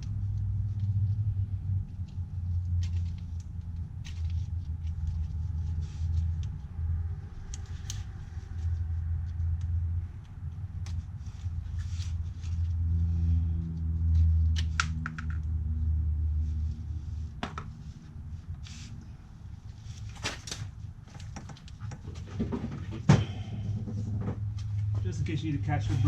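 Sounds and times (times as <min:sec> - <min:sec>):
low engine-like rumble: 0:00.0 - 0:26.0.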